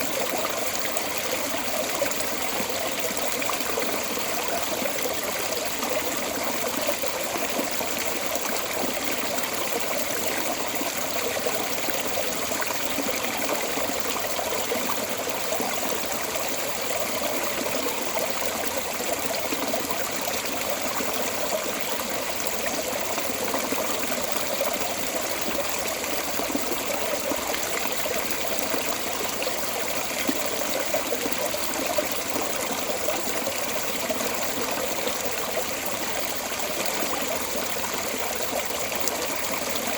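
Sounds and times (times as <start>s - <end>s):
water pouring from drain: 0.0s - 39.9s.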